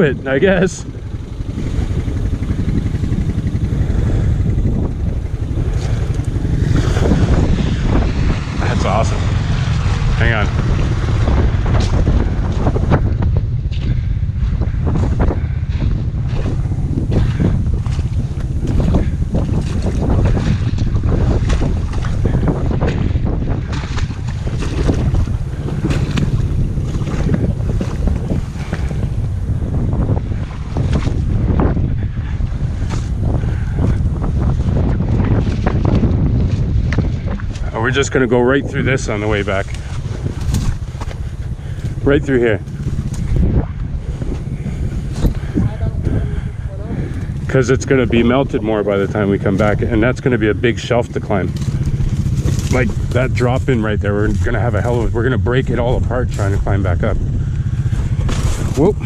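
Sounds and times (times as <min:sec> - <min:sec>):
off-road vehicle engine rumble: 0:00.0 - 0:59.0
wind buffeting microphone: 0:00.0 - 0:59.0.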